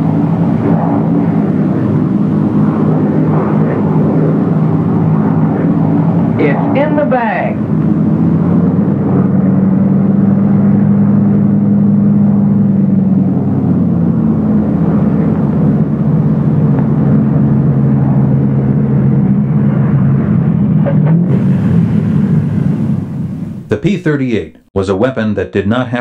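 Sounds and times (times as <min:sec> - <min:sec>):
piston aircraft engine droning: 0:00.0 - 0:24.7.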